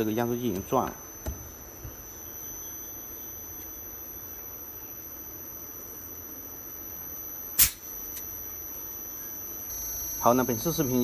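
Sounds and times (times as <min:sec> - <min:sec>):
air conditioner compressor humming: 0:00.0 - 0:11.0
high-pitched whine: 0:00.0 - 0:11.0.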